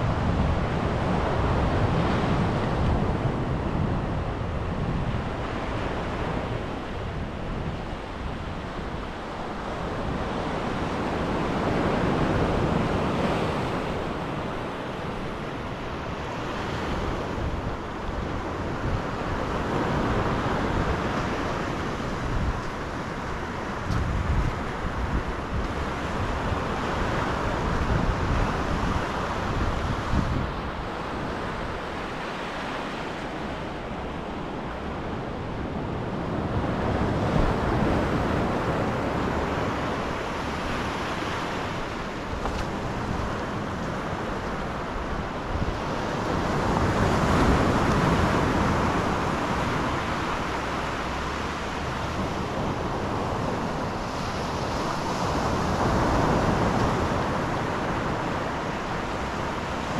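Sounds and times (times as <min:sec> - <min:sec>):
sea waves breaking: 0:00.0 - 0:59.9
wind rumbling on microphone: 0:00.0 - 0:59.9.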